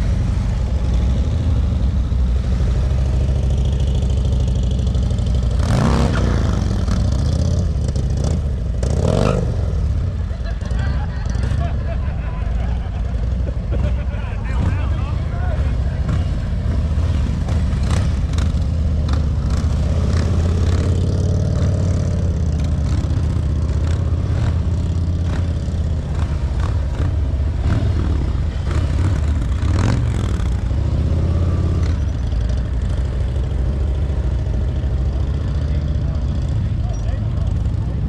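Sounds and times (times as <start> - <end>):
motorcycle engine at low revs: 0.0 - 11.8, 16.0 - 38.0.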